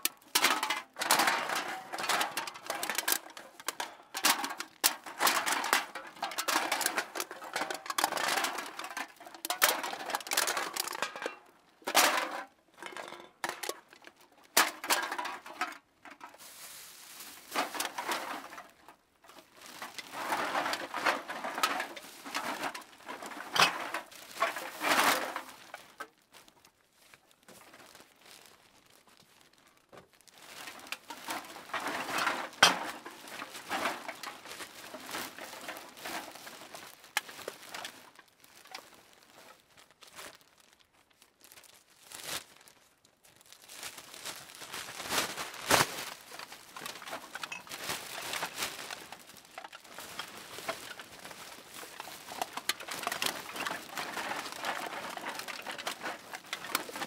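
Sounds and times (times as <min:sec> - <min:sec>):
hard objects clattering together: 0:00.0 - 0:26.2, 0:29.9 - 0:39.4, 0:43.8 - 0:57.0.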